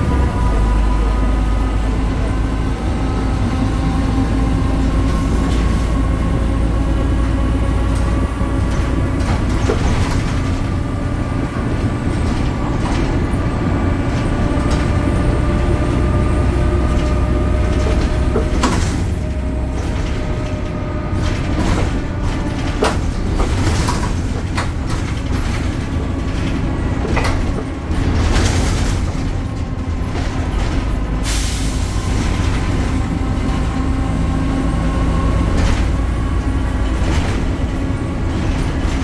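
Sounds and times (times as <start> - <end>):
bus engine rumble: 0.0 - 39.0.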